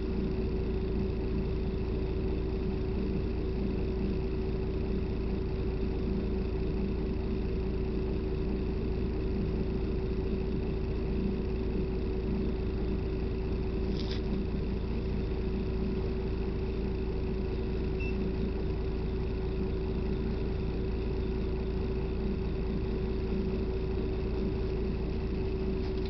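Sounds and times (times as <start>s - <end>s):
bus engine droning: 0.0s - 26.0s
constant hum: 0.0s - 26.0s.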